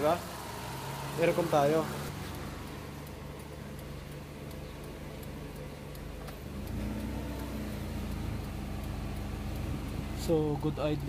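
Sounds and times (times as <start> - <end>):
car engine idling: 0.0 - 11.0
faint light ticking: 0.3 - 11.0.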